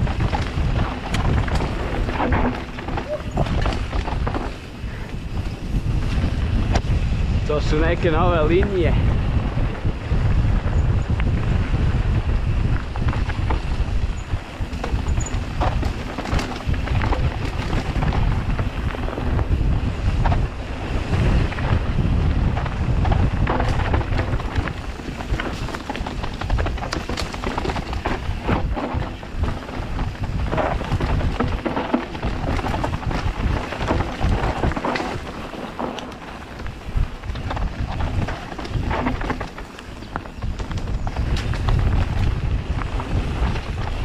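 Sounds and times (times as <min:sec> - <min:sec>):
bike knocks and rattles: 0:00.0 - 0:08.9, 0:09.6 - 0:44.0
constant low rumble: 0:00.0 - 0:44.0
wind buffeting microphone: 0:00.0 - 0:44.0.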